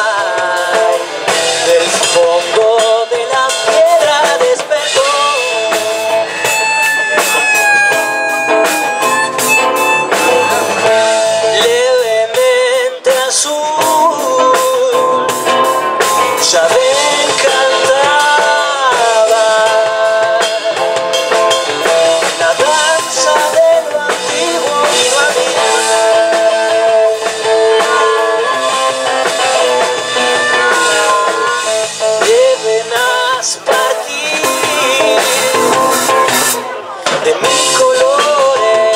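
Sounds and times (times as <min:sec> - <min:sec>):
acoustic guitar: 0:00.0 - 0:38.9
drum kit with cymbals: 0:00.0 - 0:38.9
held bending melody line: 0:01.6 - 0:12.9, 0:13.7 - 0:38.9.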